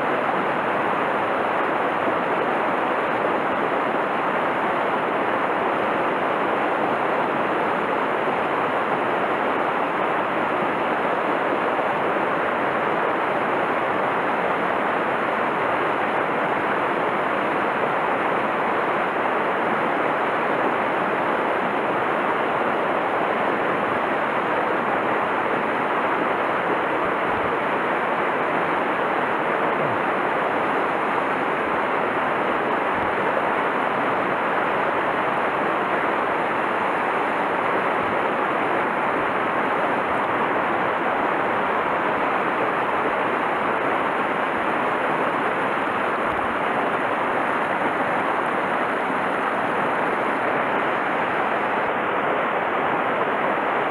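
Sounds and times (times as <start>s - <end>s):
stream rushing over boulders: 0.0s - 53.9s.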